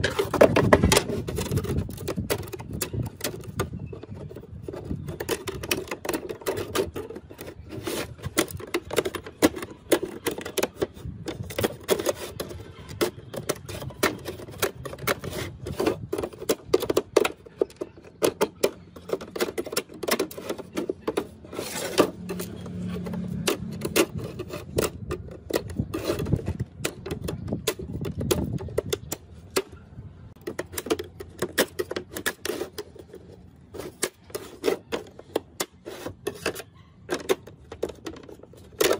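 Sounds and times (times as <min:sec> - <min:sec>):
small clicks and scraping: 0:00.0 - 0:38.9.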